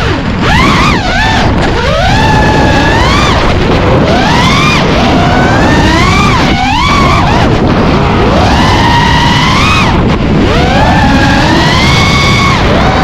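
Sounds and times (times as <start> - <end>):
drone motors whining: 0.0 - 13.0
propeller and wind rush: 0.0 - 13.0.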